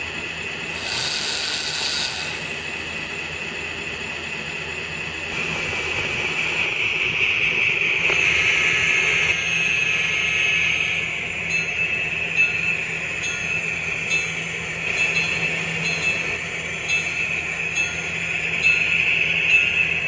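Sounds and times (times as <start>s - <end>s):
model train vacuum motor whine: 0.0s - 20.0s.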